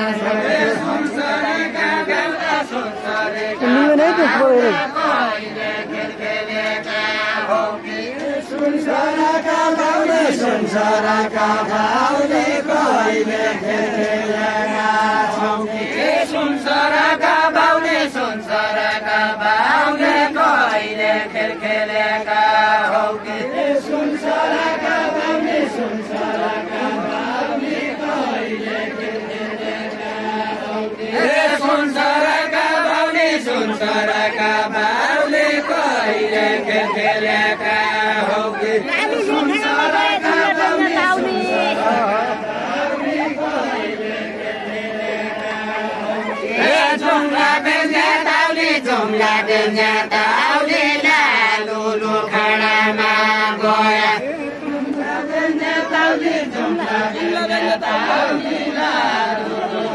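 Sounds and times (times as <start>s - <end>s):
group singing folk song: 0.0s - 59.9s.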